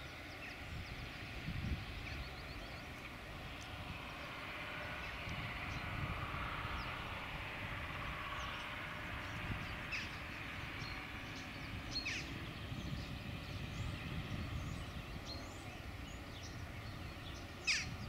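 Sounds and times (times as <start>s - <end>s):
distant tractor rumble: 0.0s - 18.0s.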